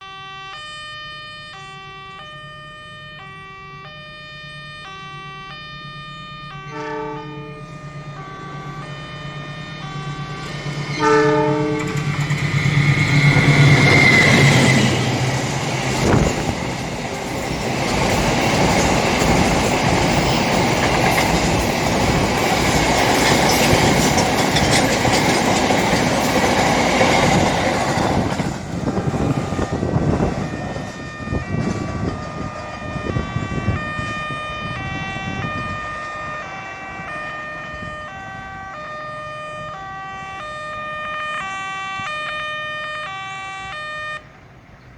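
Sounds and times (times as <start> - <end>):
level crossing alarm chiming: 0.0 - 28.2, 29.2 - 44.2
train horn: 0.0 - 44.4
train rumbling and wheel clatter: 1.2 - 44.9.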